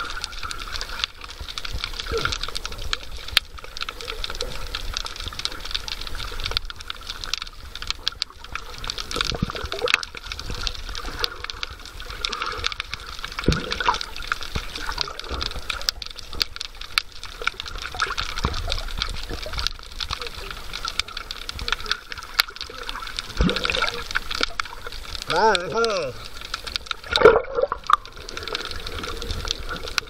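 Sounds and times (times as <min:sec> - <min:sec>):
underwater bubbling: 0:00.0 - 0:30.0
underwater clicks and crackles: 0:00.0 - 0:30.0.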